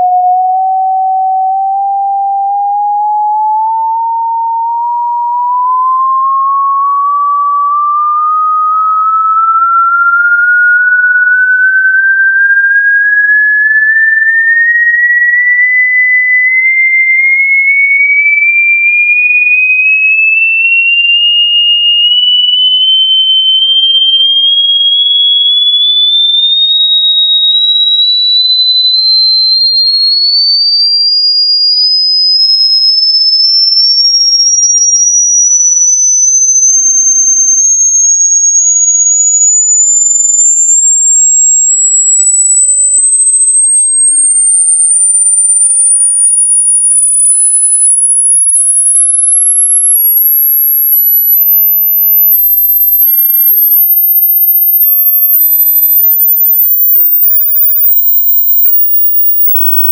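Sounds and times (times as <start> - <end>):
sine test tone sweep: 0.0 - 59.9.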